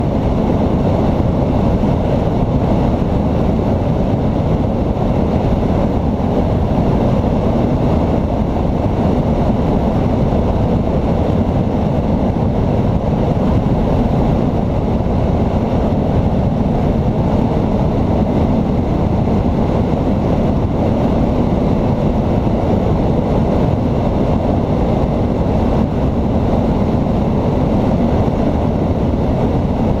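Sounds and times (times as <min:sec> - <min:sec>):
aircraft engine droning: 0:00.0 - 0:30.0.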